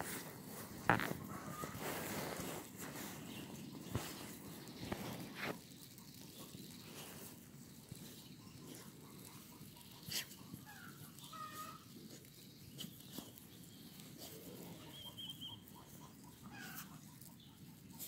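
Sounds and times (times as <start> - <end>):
animal calls and chirps: 1.3 - 18.0.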